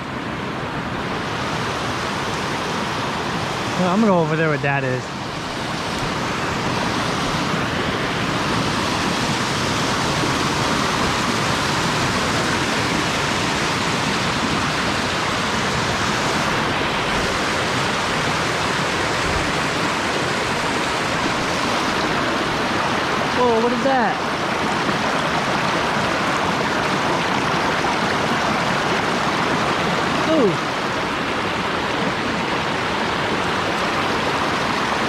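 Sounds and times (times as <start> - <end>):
fast-flowing river water rushing: 0.0 - 35.0.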